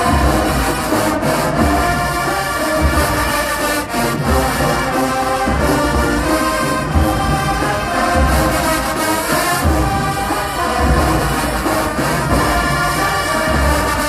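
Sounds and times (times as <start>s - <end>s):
bass drum beats: 0.0s - 14.0s
brass section holding chords: 0.0s - 14.0s.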